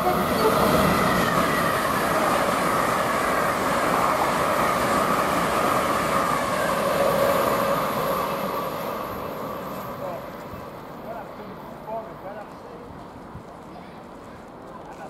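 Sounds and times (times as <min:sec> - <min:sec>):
train passing at speed: 0:00.0 - 0:14.6.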